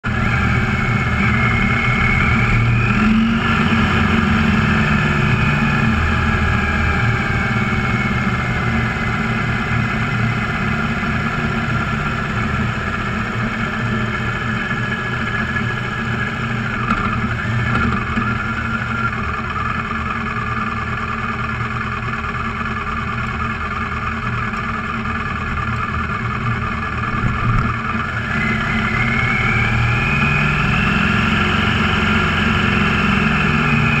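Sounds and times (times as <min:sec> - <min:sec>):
road and wind noise: 0:00.0 - 0:20.4, 0:23.7 - 0:34.0
vehicle engine running at speed: 0:00.0 - 0:34.0.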